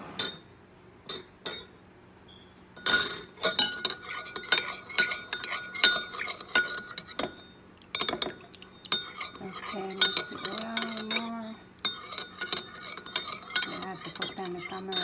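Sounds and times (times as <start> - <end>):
spoon clinking in ceramic bowl: 2.8 - 15.0
spoon scraping bowl: 2.9 - 15.0.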